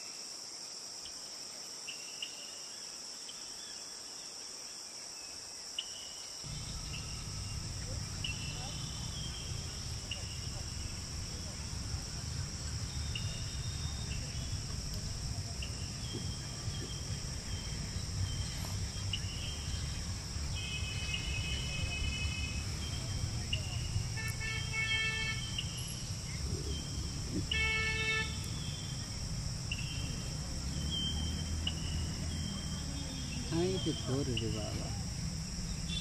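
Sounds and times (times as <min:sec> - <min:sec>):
insects buzzing: 0:00.0 - 0:36.0.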